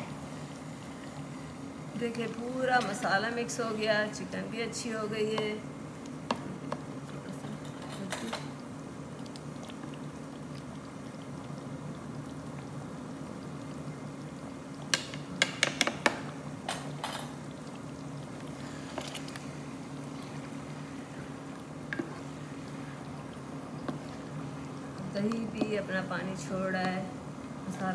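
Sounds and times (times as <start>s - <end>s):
sauce simmering in a pot: 0.0s - 7.8s, 8.4s - 27.9s
steady low hum: 0.0s - 27.9s.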